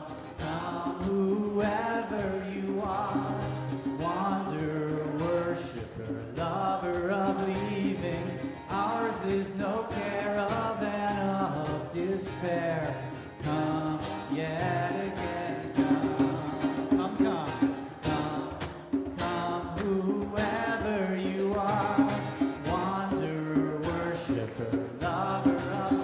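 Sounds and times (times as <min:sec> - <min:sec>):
hand drum: 0:00.0 - 0:26.0
man leading singing: 0:00.0 - 0:26.0
people singing a hymn-like round: 0:00.0 - 0:26.0
plucked strings: 0:00.0 - 0:26.0.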